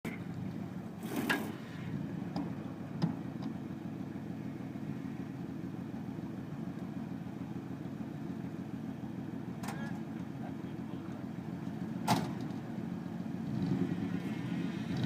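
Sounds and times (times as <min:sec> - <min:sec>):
heavy engine idling: 0:00.0 - 0:13.4.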